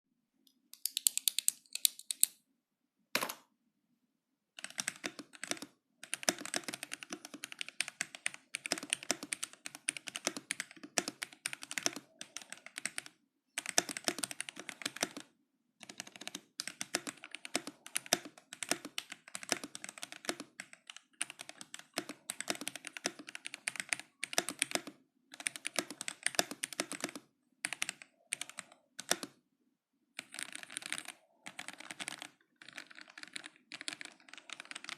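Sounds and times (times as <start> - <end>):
mechanical keyboard typing: 0.8 - 2.4, 4.6 - 29.4, 30.2 - 34.9.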